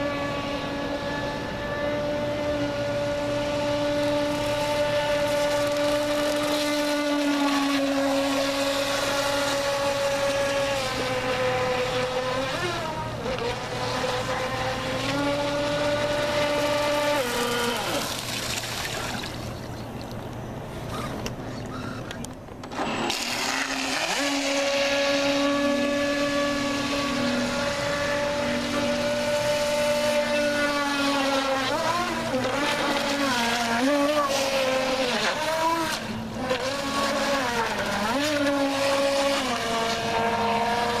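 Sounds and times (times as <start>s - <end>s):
electric motor high whine: 0.0s - 19.7s, 21.7s - 41.0s.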